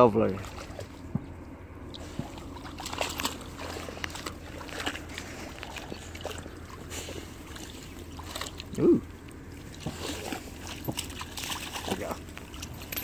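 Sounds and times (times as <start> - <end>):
pond water sloshing: 0.0 - 13.0
steady low rumble: 0.0 - 13.0.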